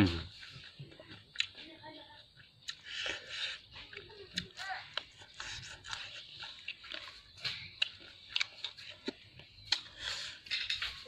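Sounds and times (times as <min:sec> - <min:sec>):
person chewing crispy food: 0:00.0 - 0:01.6, 0:02.2 - 0:11.0.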